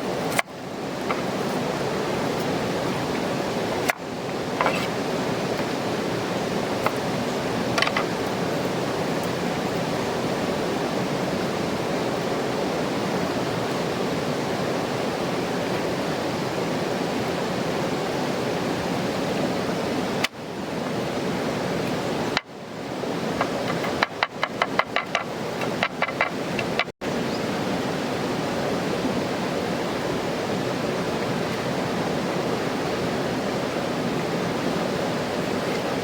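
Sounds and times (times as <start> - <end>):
river rushing: 0.0 - 36.0.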